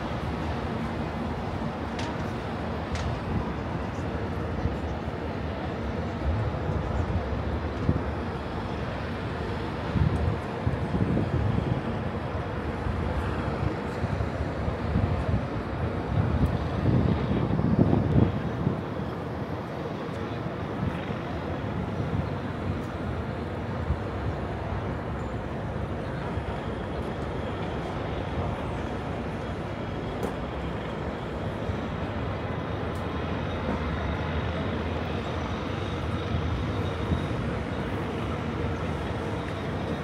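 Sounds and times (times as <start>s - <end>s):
city traffic rumble: 0.0s - 40.0s.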